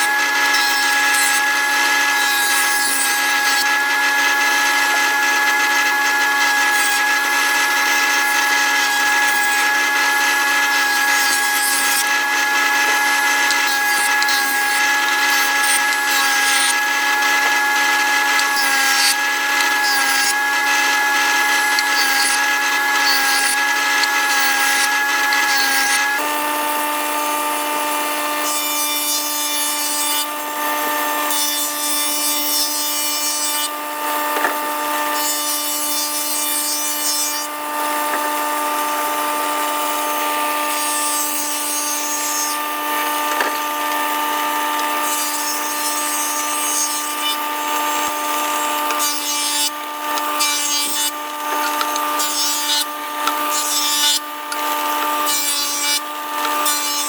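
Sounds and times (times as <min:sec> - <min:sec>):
power tool motor whine: 0:00.0 - 0:57.0.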